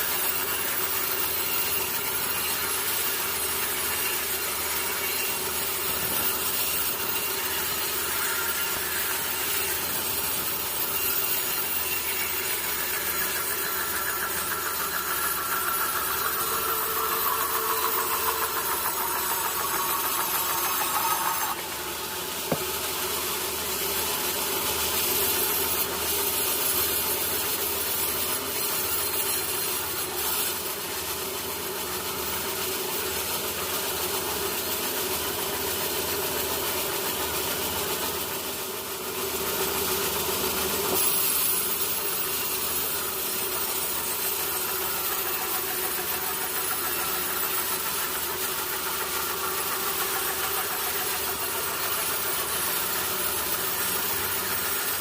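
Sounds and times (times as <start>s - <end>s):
saw cutting through log: 0.0s - 55.0s.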